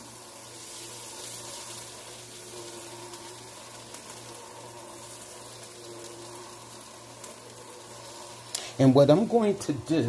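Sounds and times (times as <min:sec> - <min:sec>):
steady low hum: 0:00.0 - 0:10.0
vegetables sizzling in butter: 0:00.0 - 0:10.0.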